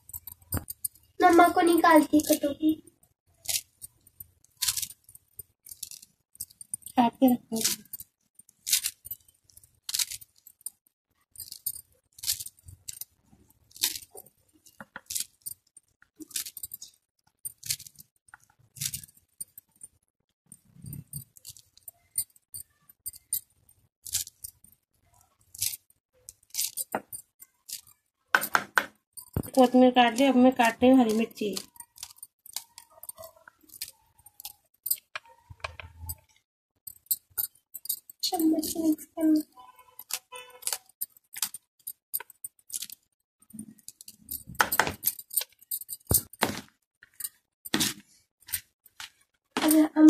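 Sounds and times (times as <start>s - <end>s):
glass bangles clinking: 0.0s - 50.0s.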